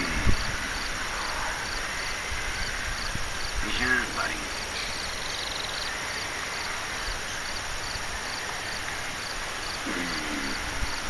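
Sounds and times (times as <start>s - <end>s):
insect chirping: 0.0s - 11.0s
steady outdoor hiss: 0.0s - 11.0s.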